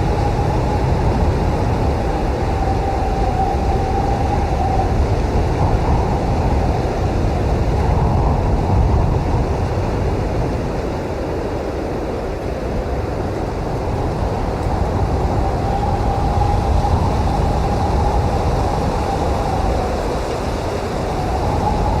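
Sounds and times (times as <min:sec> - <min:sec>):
blizzard wind gusts: 0:00.0 - 0:22.0.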